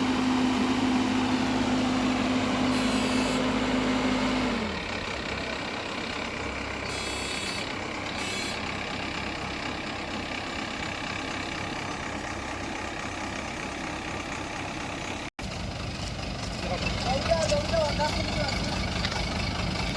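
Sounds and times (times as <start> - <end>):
farm machinery engine running: 0.0 - 19.9.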